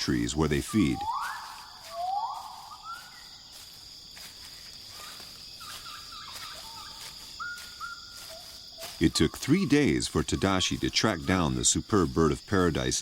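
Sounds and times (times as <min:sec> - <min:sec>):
birds calling: 0:00.0 - 0:13.0
high insect drone: 0:00.0 - 0:13.0.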